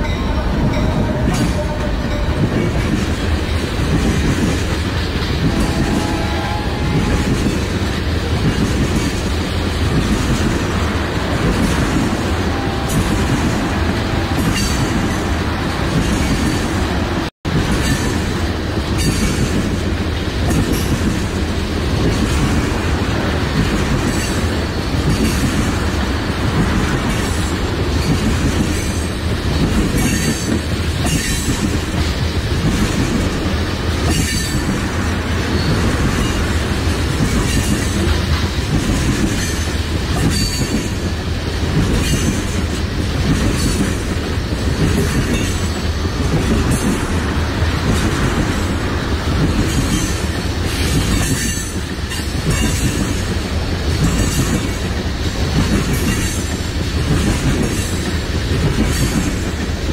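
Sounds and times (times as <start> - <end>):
freight train rumbling past: 0.0 - 59.9
wheels clattering over rail joints: 0.0 - 59.9.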